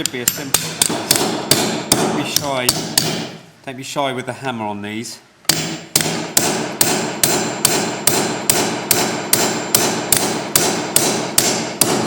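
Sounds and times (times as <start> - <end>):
hammer striking steel punch: 0.0 - 3.4, 5.5 - 12.0.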